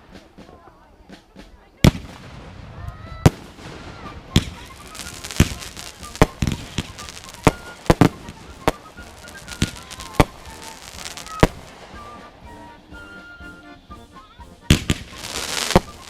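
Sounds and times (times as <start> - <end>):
fireworks banging: 0.0 - 13.9, 14.6 - 16.0.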